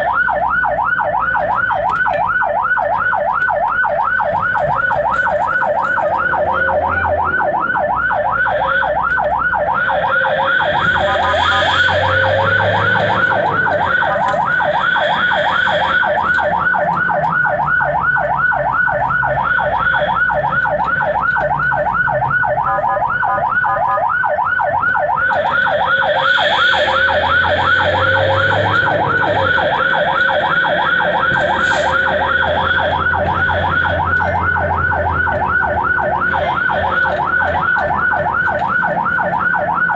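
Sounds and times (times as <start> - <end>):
ambulance siren yelping: 0.0 - 39.9.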